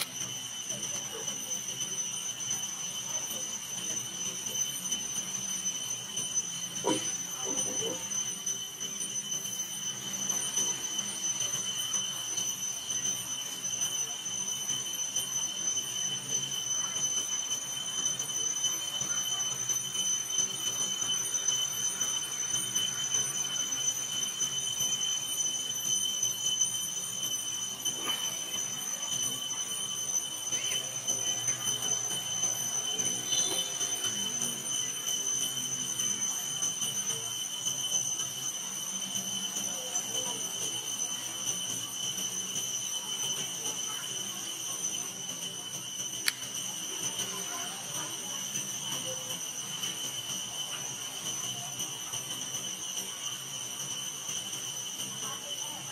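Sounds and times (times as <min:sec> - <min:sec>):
high-pitched insect drone: 0:00.0 - 0:55.9.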